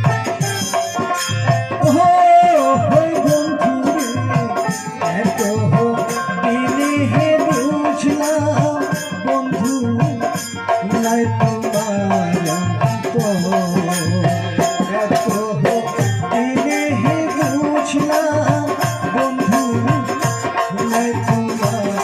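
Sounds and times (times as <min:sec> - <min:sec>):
folk percussion and melody: 0:00.0 - 0:22.0.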